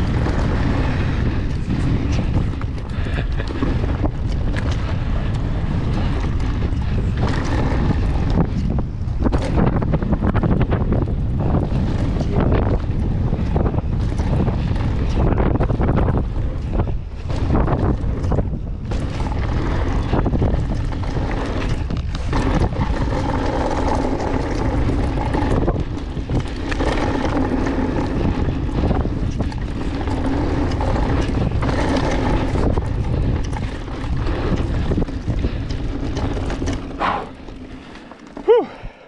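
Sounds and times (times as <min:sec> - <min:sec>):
bike tyres rolling on dirt: 0:00.0 - 0:39.0
wind buffeting microphone: 0:00.0 - 0:39.0.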